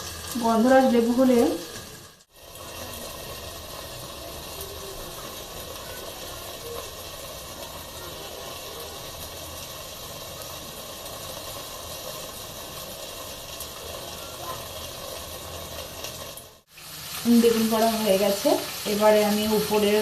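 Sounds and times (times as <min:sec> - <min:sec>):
vegetables hissing over flame: 0:00.0 - 0:20.0.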